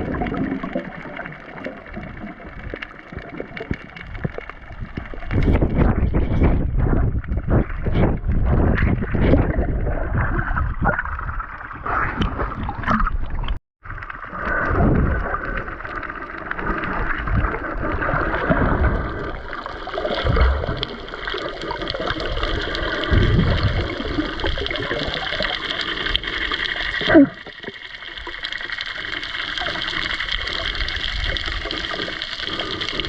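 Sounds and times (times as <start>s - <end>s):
low thumps and gurgles: 0.0s - 27.7s
water sloshing and bubbling: 0.0s - 33.0s.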